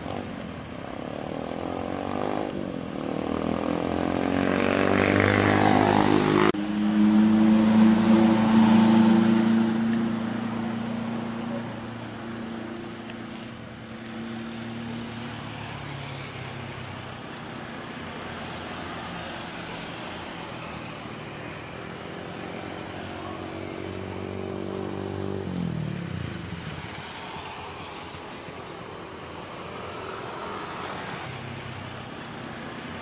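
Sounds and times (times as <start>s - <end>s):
broad rushing noise: 0.0s - 33.0s
vehicle engine passing: 1.4s - 28.8s.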